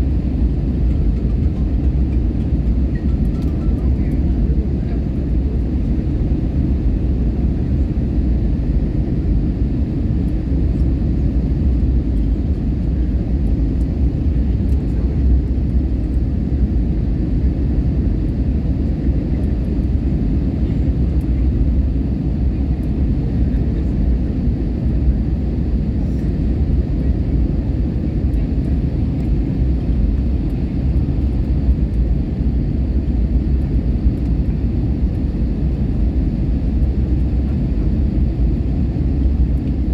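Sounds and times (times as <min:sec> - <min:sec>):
jet airliner rumble: 0:00.0 - 0:39.9.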